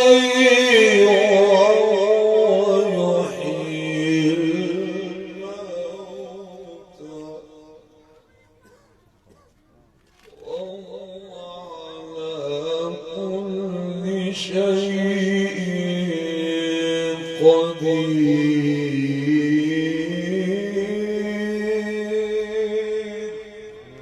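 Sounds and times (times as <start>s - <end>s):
man chanting melodically: 0.0s - 8.6s, 10.3s - 24.0s.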